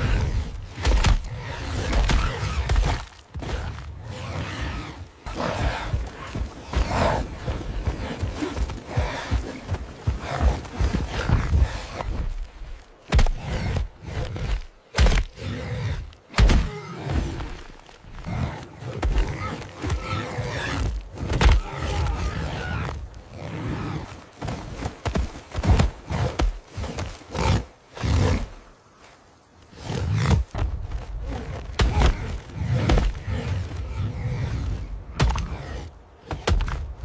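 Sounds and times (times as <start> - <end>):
boar grunts and roars: 0.0 - 28.7, 29.7 - 37.0.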